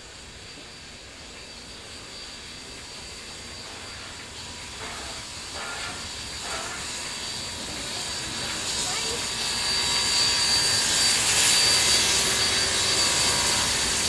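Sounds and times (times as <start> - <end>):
faint locomotive exhaust beats: 0.0 - 14.0
steam hissing: 0.0 - 14.0.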